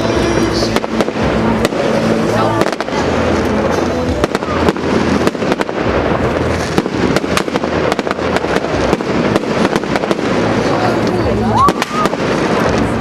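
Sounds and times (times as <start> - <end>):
fireworks crackling rumble: 0.0 - 13.0
fireworks cracks and bangs: 0.0 - 13.0.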